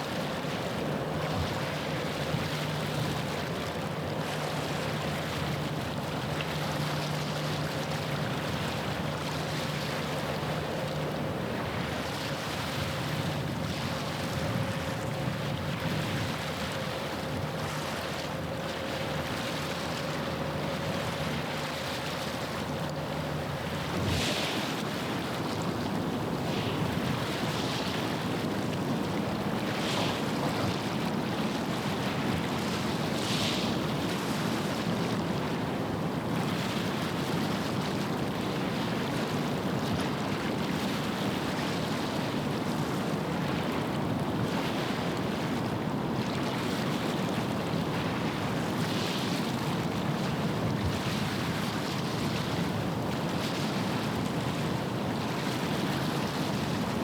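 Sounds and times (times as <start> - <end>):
low rumble of wind and water: 0.0 - 57.0
small waves washing ashore: 0.0 - 57.0.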